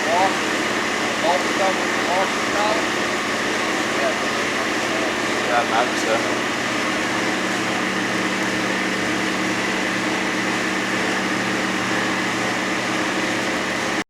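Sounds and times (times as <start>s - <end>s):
motor-driven machine whirring: 0.0s - 14.0s.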